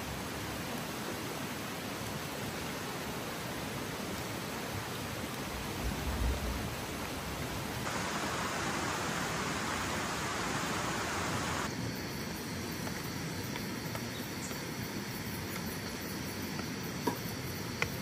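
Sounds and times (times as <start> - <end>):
quiet background hiss: 0.0 - 17.8
heavy rain hissing: 0.0 - 18.0.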